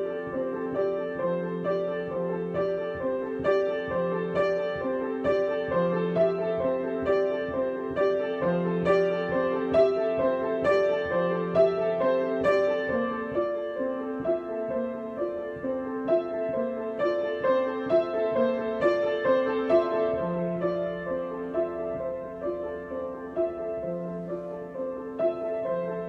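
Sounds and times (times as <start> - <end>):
solo piano improvisation: 0.0 - 26.0.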